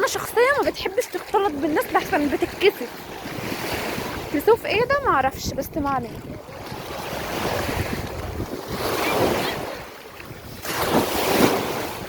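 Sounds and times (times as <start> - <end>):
sea waves breaking: 0.0 - 12.0
wind buffeting microphone: 0.0 - 12.0.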